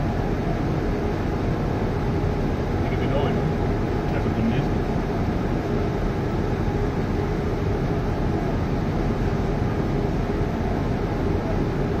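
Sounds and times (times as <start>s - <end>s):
industrial machinery rumbling: 0.0s - 12.0s.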